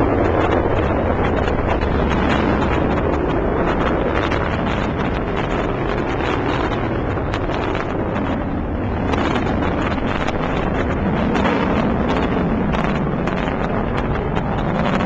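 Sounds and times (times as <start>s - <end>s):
rocket engine roar with crackling: 0.0s - 15.0s.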